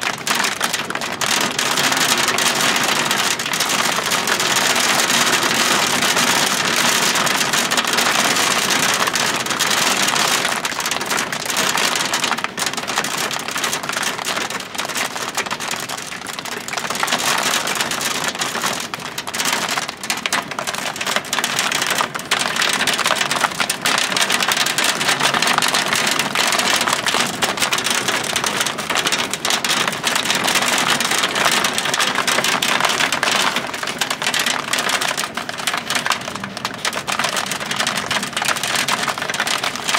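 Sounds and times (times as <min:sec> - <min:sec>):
hail and heavy rain: 0:00.0 - 0:39.9.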